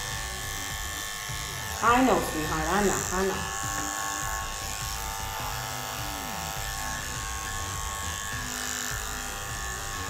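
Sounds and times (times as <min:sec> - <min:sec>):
electric dog clippers running: 0:00.0 - 0:10.0.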